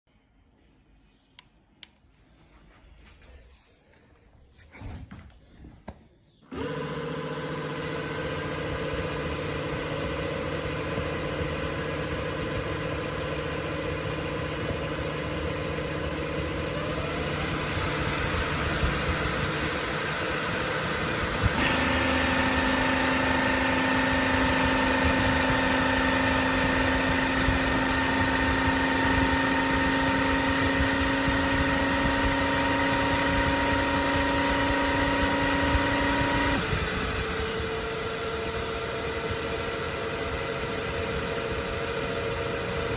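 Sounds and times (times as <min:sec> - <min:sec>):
vacuum mop motor whirring: 0:06.4 - 0:42.9.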